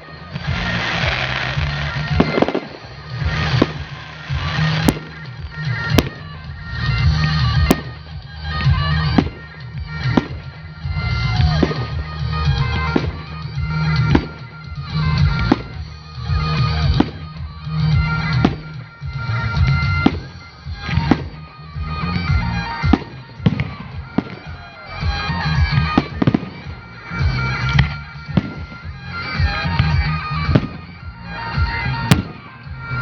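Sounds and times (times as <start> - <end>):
fireworks bursting: 0.0 - 33.0
loud music with drone: 0.0 - 33.0.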